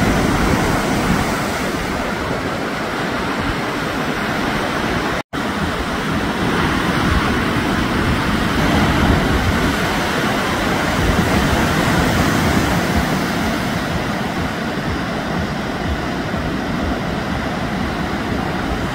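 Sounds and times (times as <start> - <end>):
ocean surf breaking: 0.0 - 18.9.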